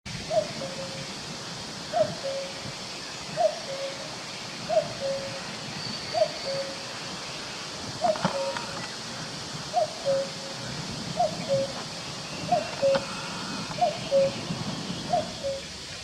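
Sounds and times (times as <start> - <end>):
cuckoo calling: 0.3 - 1.1, 1.9 - 2.7, 3.3 - 7.2, 8.0 - 15.8.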